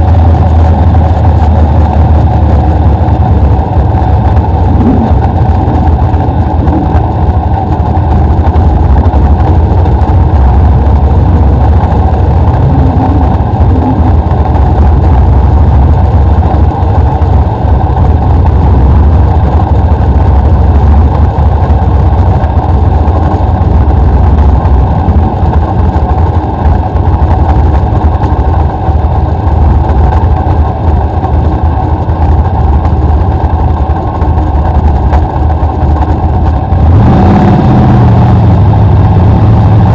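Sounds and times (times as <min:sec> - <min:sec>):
stock car engine running loud: 0:00.0 - 0:39.9.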